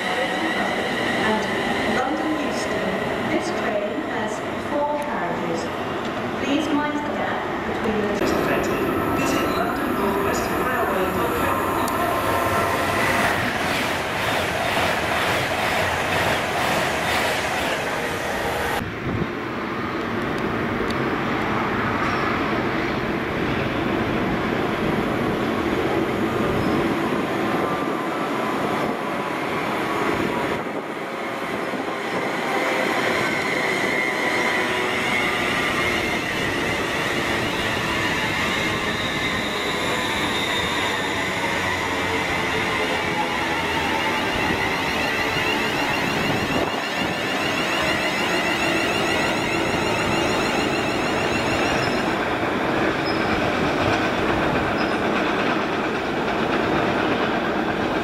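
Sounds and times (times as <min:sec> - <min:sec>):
electric trains passing: 0:00.0 - 0:58.0.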